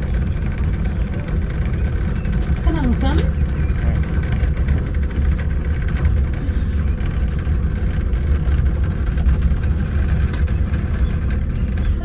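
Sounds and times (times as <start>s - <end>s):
monorail car rumbling on rail: 0.0s - 12.0s.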